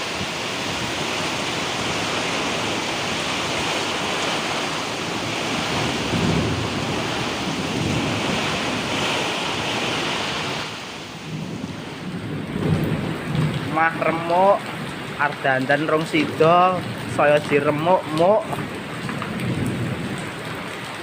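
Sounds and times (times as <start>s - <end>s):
wind gusts buffeting microphone: 0.0s - 20.7s
rain: 0.0s - 21.0s
rushing wind: 0.0s - 21.0s.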